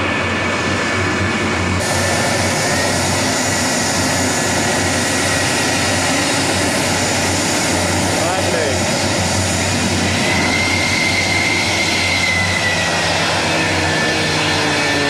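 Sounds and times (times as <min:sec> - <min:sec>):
jet engines taxiing: 0:00.0 - 0:15.0.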